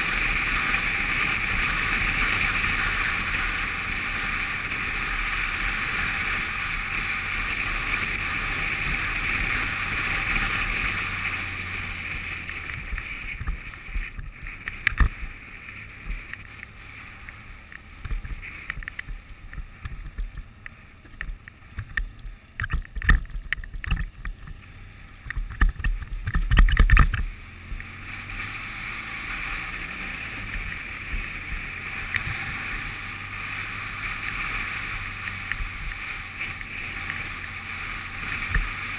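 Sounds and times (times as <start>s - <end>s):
knocks and thuds from rough road: 0.0s - 38.9s
motorcycle engine drone: 0.0s - 38.9s.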